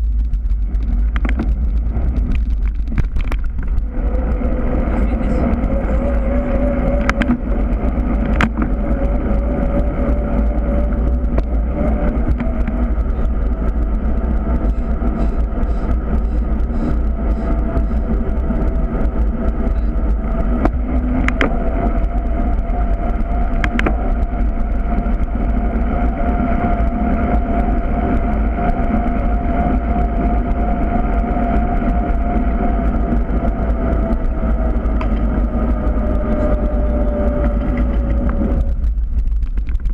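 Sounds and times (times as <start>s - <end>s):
bicycle road noise on asphalt: 0.0s - 39.9s
faint hum rising in pitch: 0.0s - 39.9s
wind rumble: 0.0s - 39.9s.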